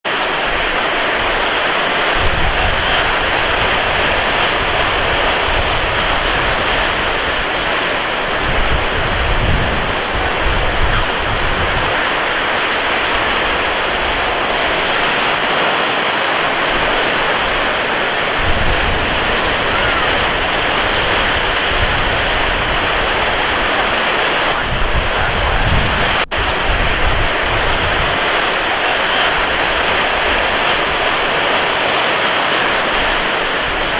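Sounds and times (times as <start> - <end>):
surf washing on beach: 0.0 - 33.9
wind buffeting microphone: 0.1 - 33.9.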